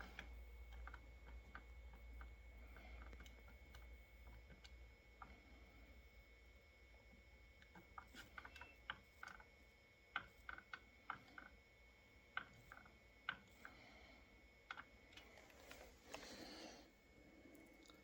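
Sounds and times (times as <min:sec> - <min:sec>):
faint clicks and ticks: 0:00.0 - 0:16.4.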